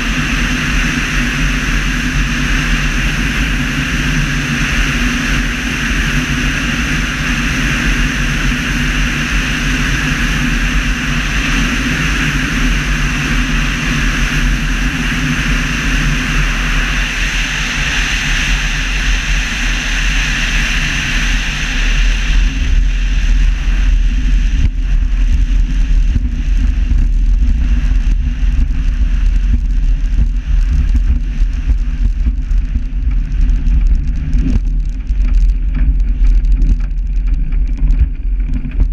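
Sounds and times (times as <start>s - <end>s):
airframe rumbling and rattling: 0.0s - 38.9s
rush of airflow: 0.0s - 38.9s.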